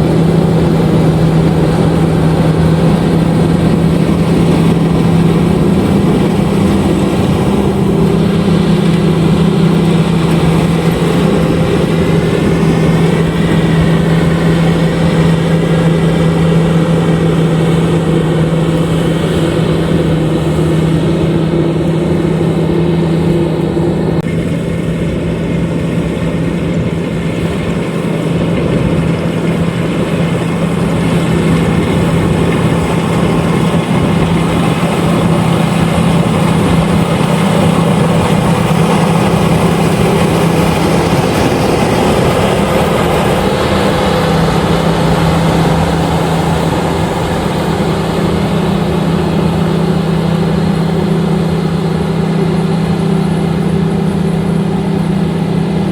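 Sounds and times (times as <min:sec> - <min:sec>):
combine harvester engine droning: 0:00.0 - 0:55.9.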